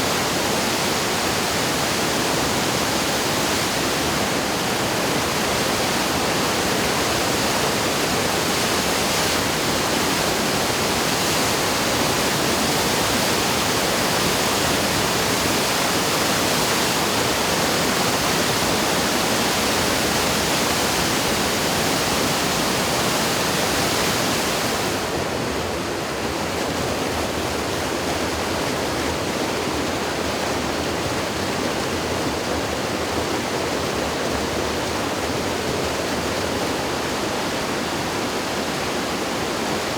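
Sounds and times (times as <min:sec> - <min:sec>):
flooded river rushing: 0:00.0 - 0:39.9.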